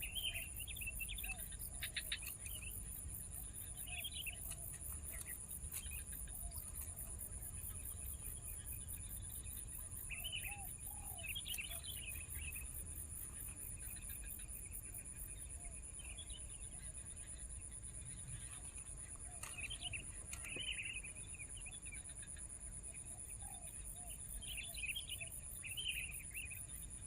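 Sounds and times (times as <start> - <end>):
insect trill: 0.0 - 27.0.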